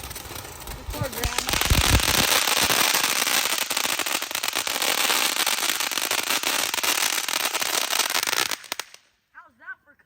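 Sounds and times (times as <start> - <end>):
firework hiss: 0.0 - 9.0
firework crackling: 0.0 - 9.2.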